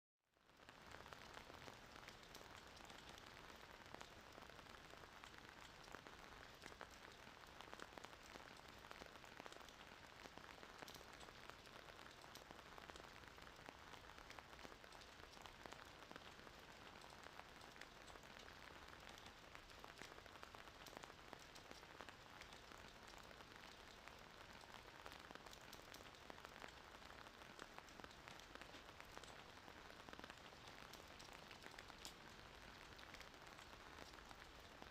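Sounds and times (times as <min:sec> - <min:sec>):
faint hiss with crackle: 0:00.3 - 0:34.9.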